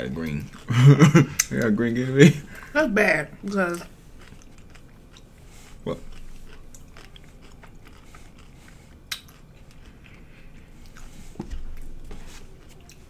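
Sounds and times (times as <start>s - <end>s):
chewing crunchy food: 0.0s - 1.8s, 3.5s - 13.0s.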